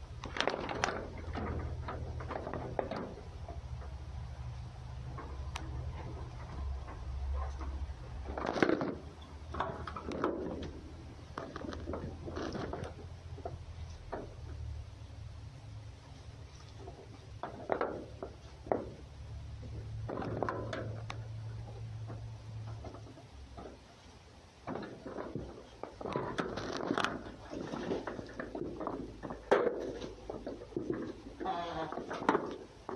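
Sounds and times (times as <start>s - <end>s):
animals rustling and scraping: 0.0s - 32.9s.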